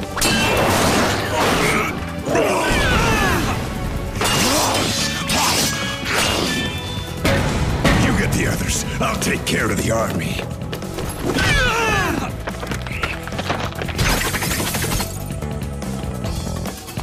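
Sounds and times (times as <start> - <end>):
action music: 0.0 - 17.0.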